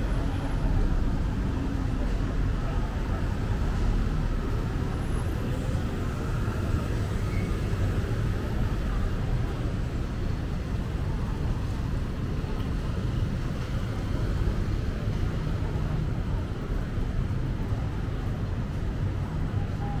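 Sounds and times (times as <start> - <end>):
traffic on a wet road: 0.0 - 20.0.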